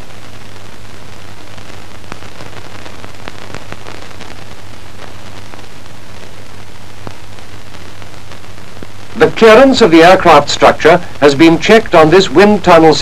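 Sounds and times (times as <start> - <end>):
crackling clicks: 0.0 - 13.0
film soundtrack hiss: 0.0 - 13.0.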